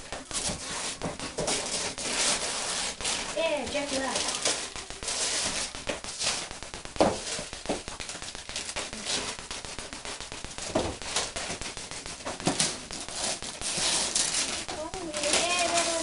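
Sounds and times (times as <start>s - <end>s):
wrapping paper rustling: 0.0s - 16.0s.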